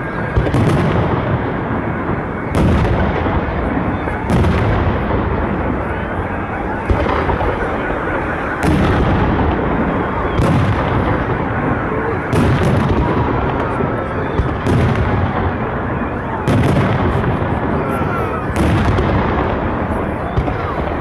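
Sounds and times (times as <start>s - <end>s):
firework shells booming: 0.0s - 21.0s
fireworks rumble and crackle: 0.0s - 21.0s.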